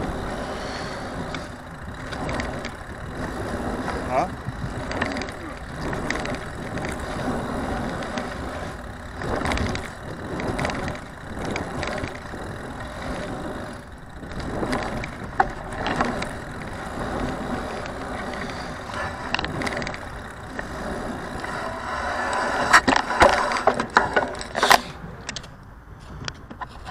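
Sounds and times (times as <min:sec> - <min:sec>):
bicycle tyres rolling: 0:00.0 - 0:26.9
bike rattling and clicking: 0:00.0 - 0:26.9.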